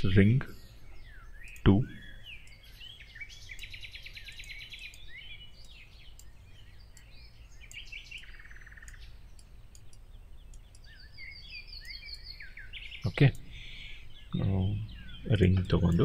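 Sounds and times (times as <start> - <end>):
bird trills: 0.0 - 16.0
birds chirping: 0.0 - 16.0
low steady hum: 0.0 - 16.0.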